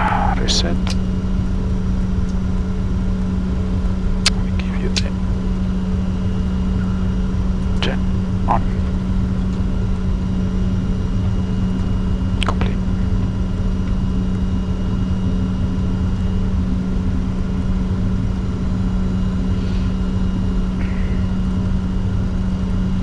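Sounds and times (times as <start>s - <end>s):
aircraft cockpit rumble: 0.0s - 23.0s.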